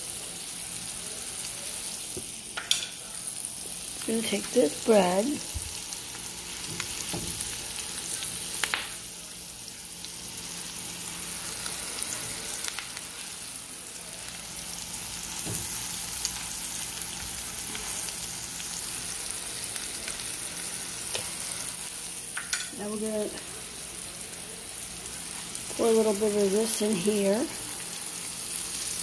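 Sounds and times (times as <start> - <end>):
oil sizzling in a skillet: 0.0 - 29.0.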